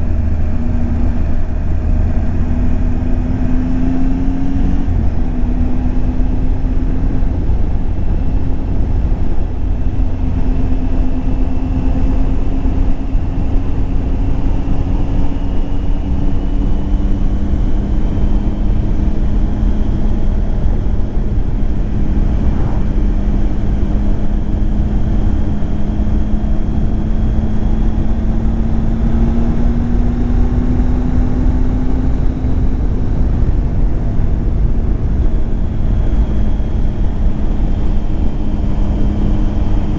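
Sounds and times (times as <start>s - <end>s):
low rumble: 0.0s - 39.9s
motorcycle engine running: 0.0s - 39.9s.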